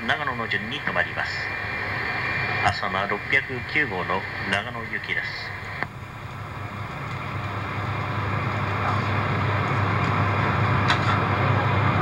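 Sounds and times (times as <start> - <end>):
train running hum inside car: 0.0 - 12.0.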